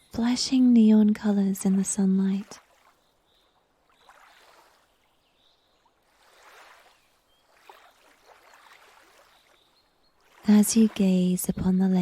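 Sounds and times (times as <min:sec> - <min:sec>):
lake water lapping: 0:01.6 - 0:11.4.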